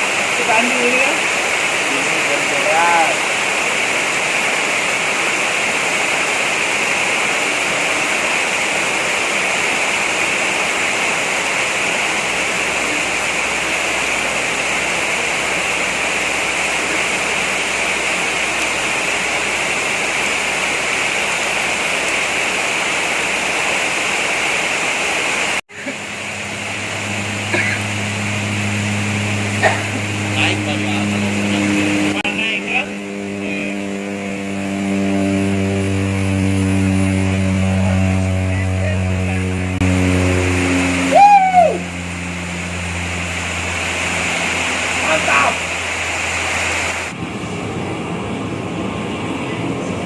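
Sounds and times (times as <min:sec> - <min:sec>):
steady low hum: 0:00.0 - 0:23.5, 0:25.7 - 0:50.0
heavy rain pouring: 0:00.0 - 0:50.0.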